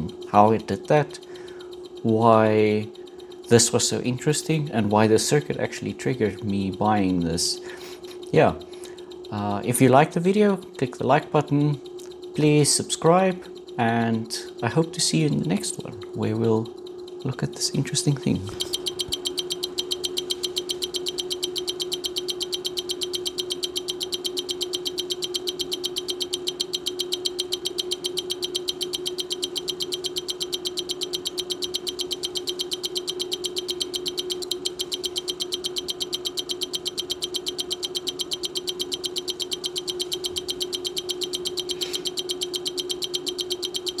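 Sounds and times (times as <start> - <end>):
rapid clicks: 0.0 - 44.0
steady hum: 0.0 - 44.0.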